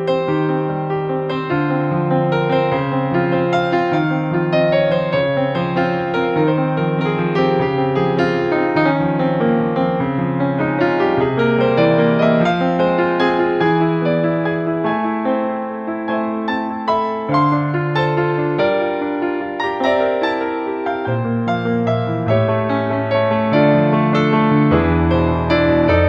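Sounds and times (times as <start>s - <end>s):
piano music with bass line: 0.0s - 26.0s.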